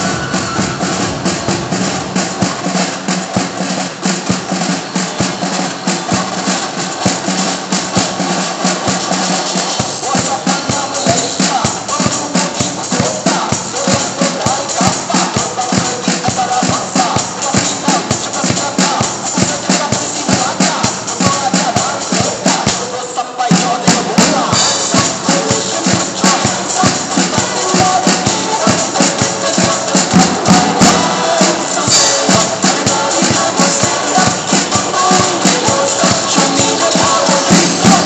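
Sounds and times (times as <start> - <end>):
drum kit playing: 0.0 - 22.9, 23.5 - 38.0
recorded music: 0.0 - 38.0.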